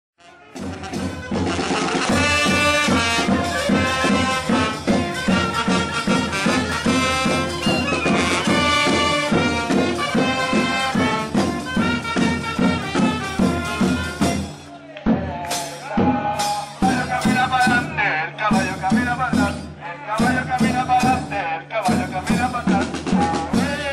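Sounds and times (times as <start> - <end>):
marching brass band: 0.2 - 23.9.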